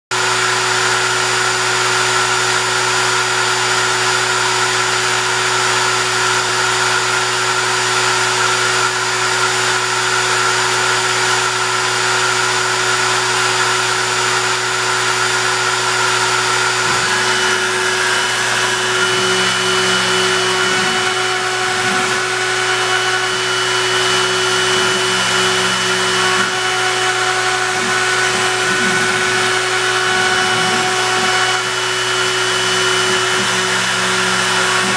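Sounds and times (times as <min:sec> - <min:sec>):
router machine whirring: 0:00.1 - 0:34.9.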